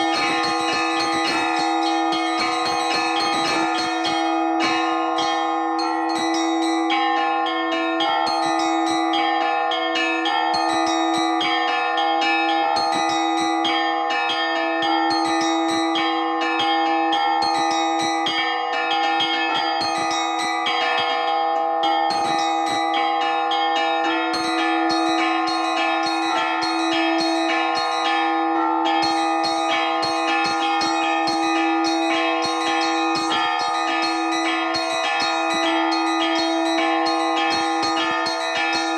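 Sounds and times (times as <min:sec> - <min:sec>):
deep church bells ringing: 0:00.0 - 0:38.9
small high bells struck rapidly: 0:00.0 - 0:38.9.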